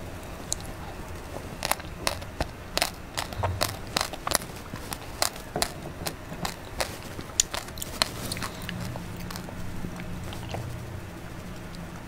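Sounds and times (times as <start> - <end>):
wet mouth clicks from chewing: 0.5 - 10.8.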